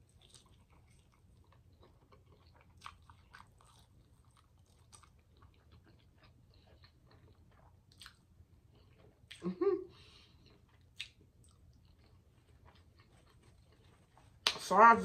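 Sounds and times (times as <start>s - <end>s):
chewing with mouth clicks: 0.0s - 14.6s.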